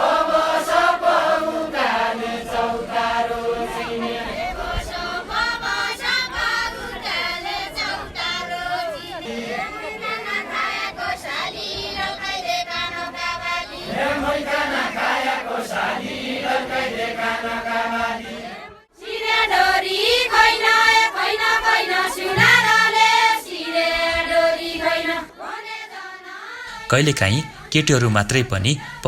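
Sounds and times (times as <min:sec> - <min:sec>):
group singing chant-like song: 0:00.0 - 0:29.0.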